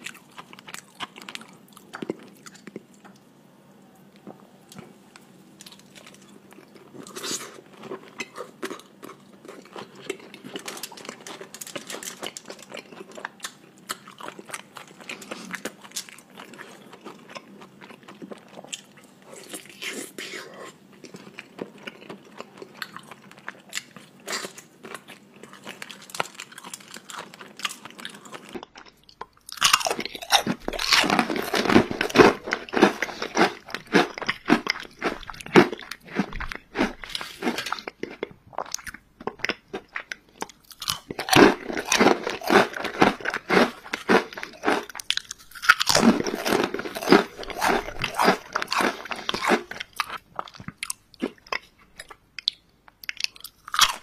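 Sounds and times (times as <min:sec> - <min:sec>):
soft chewing: 0:00.0 - 0:54.0
crunching potato chips: 0:05.6 - 0:20.4, 0:21.0 - 0:54.0.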